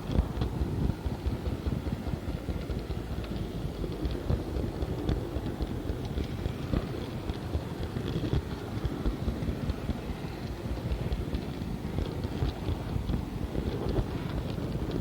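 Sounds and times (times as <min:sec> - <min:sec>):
model tram motor rumble: 0:00.0 - 0:15.0.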